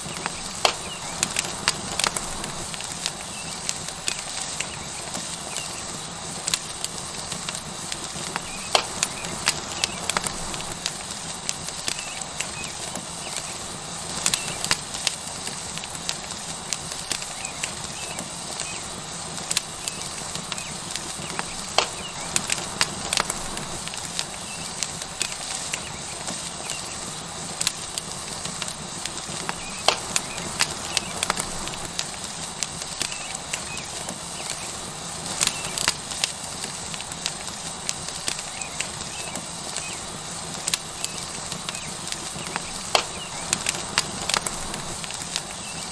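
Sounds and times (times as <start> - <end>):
burning wood crackling: 0.0 - 45.9
steak sizzling on hot rock: 0.0 - 45.9.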